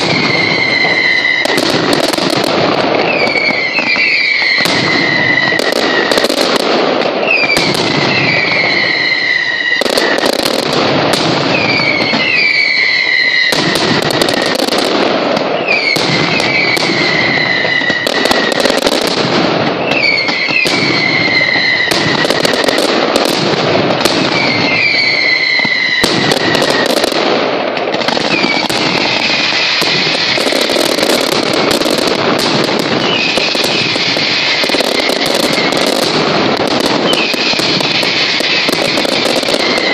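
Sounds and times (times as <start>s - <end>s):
firecracker detonations: 0.0s - 39.9s
whistling fireworks: 0.0s - 39.9s.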